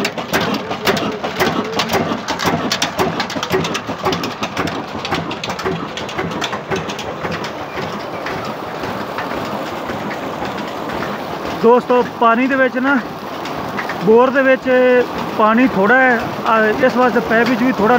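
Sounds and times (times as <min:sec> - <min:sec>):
stationary engine clattering: 0:00.0 - 0:17.9
water pouring from pipe: 0:00.0 - 0:17.9.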